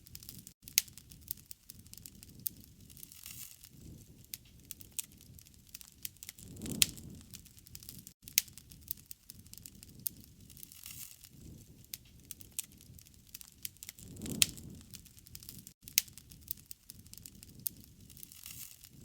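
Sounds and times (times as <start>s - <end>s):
burning wood popping: 0.0s - 19.0s
low rumble of flame: 0.0s - 19.0s.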